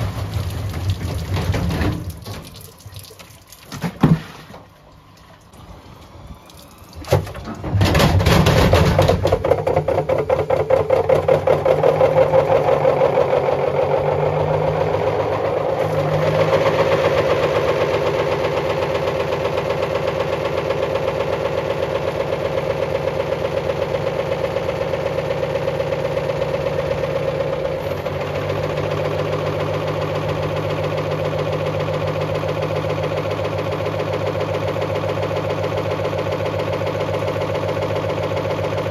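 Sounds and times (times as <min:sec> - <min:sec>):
washing machine motor running: 0:00.0 - 0:38.9.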